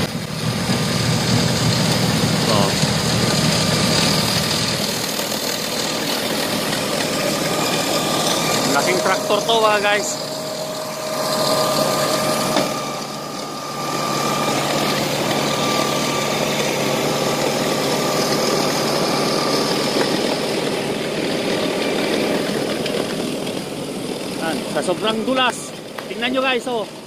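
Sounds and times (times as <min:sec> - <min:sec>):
tractor snowblower drone: 0:00.0 - 0:27.0.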